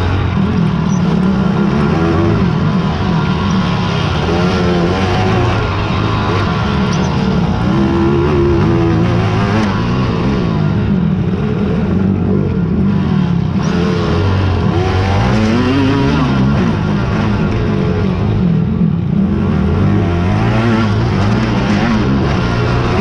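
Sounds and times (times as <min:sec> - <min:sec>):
quad engines revving: 0:00.0 - 0:23.0.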